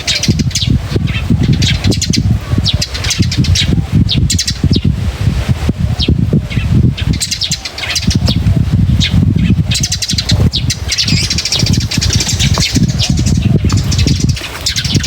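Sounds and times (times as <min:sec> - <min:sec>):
small birds chirping: 0:00.0 - 0:04.9, 0:06.0 - 0:15.0.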